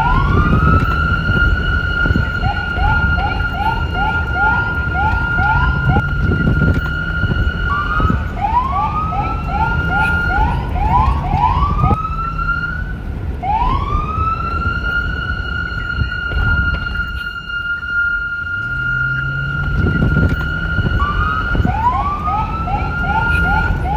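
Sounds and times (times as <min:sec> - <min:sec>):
low rumble: 0:00.0 - 0:23.9
police car siren: 0:00.0 - 0:23.9.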